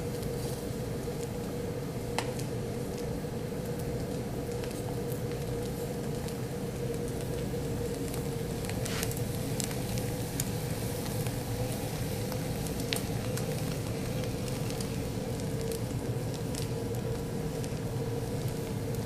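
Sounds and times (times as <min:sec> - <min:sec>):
fire crackles: 0:00.0 - 0:19.0
rushing flame: 0:00.0 - 0:19.0.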